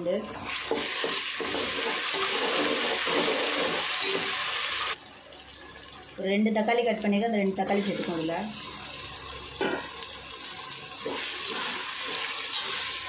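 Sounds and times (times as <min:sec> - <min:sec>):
onions sizzling in hot oil: 0:00.1 - 0:13.0.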